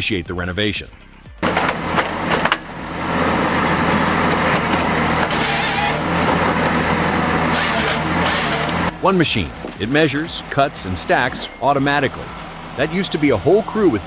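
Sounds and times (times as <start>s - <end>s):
heavy machine engine running: 1.4s - 14.0s.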